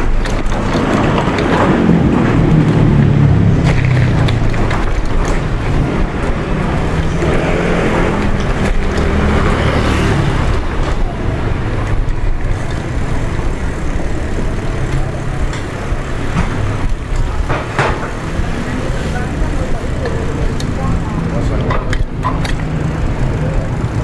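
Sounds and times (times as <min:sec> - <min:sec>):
bicycle road rumble: 0:00.0 - 0:24.0
vehicle engine running: 0:00.0 - 0:24.0
wind: 0:00.0 - 0:24.0.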